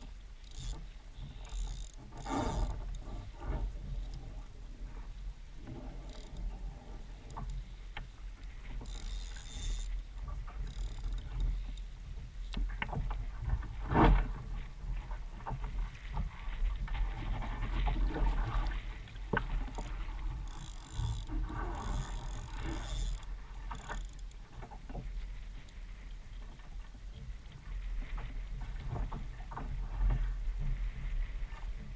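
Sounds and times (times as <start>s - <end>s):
water splashing around kayak: 0.0s - 31.9s
wind rumble on microphone: 0.0s - 31.9s.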